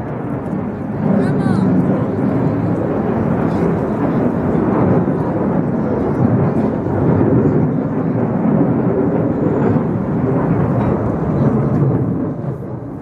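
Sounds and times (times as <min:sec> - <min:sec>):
fighter jet engines rumbling: 0:00.0 - 0:13.0.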